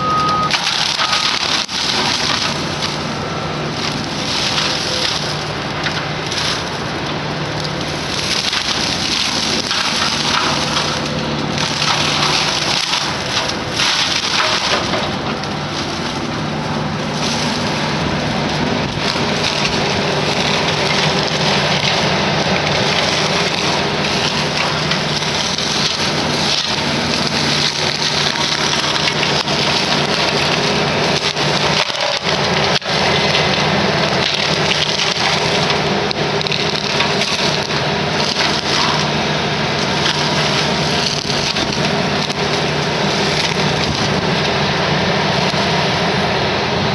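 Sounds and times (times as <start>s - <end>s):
brush mower grinding trees: 0.0s - 46.9s
excavator engine running: 0.0s - 46.9s.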